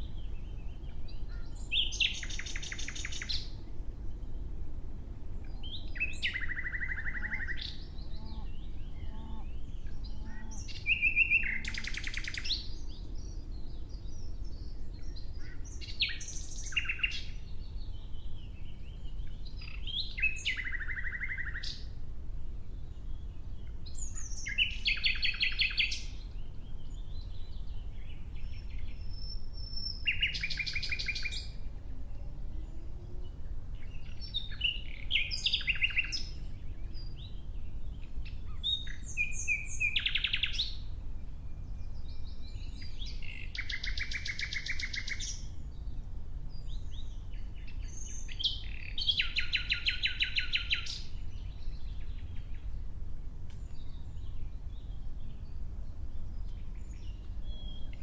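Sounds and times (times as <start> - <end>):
nightingale singing: 0.0 - 4.5, 5.4 - 22.0, 22.7 - 52.8, 53.6 - 58.0.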